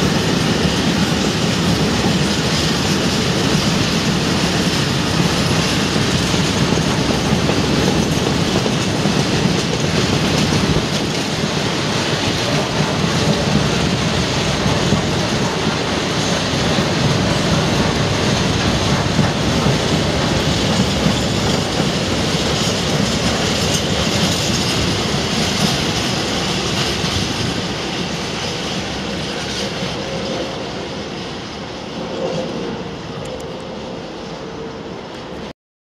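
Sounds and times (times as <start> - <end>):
freight train rumbling past: 0.0 - 35.5.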